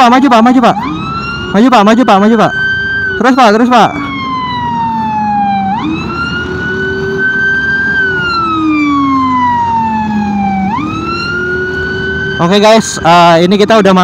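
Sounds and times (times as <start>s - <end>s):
electronic siren wailing: 0.0s - 14.0s
traffic and road noise: 0.0s - 14.0s.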